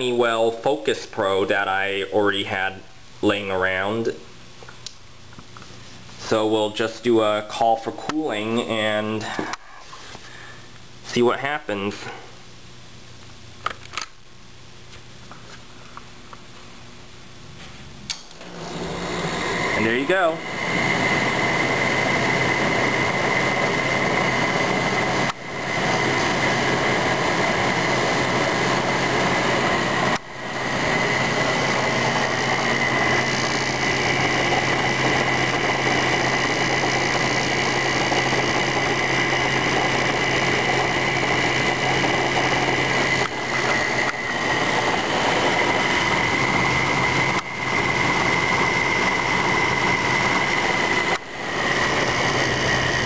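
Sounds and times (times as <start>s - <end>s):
air conditioner blowing hum: 0.0s - 53.0s
fan motor high whine: 0.0s - 53.0s.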